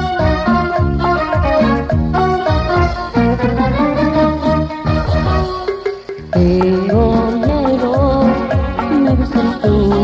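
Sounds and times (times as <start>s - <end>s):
latin band instrumental: 0.0s - 10.0s.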